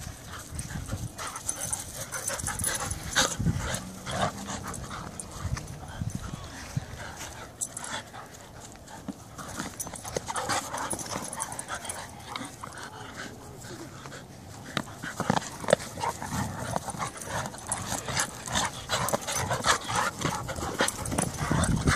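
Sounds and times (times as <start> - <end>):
dogs panting: 0.0 - 21.9
dogs scuffling: 0.0 - 21.9.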